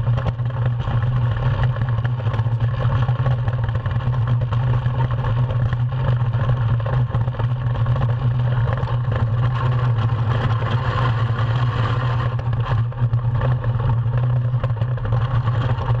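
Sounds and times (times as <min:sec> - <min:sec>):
iceboat runners rumbling on ice: 0:00.0 - 0:16.0
runners clattering over ice: 0:00.0 - 0:16.0.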